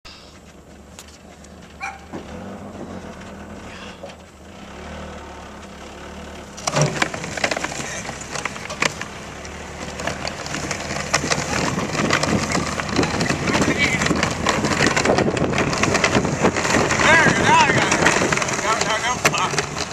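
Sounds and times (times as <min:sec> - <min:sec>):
cart wheels rattling over dirt: 0:00.1 - 0:19.9
truck engine hum: 0:00.1 - 0:19.9.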